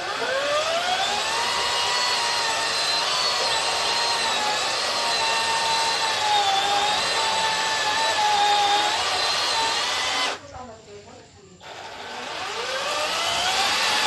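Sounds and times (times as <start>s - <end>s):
cordless chainsaw whining: 0.0s - 10.4s, 11.6s - 14.0s.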